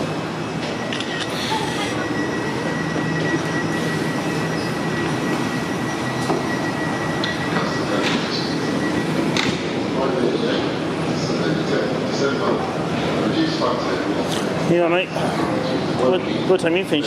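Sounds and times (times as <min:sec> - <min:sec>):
high whine: 0:00.0 - 0:14.2
train motors rumbling and humming: 0:00.0 - 0:17.0.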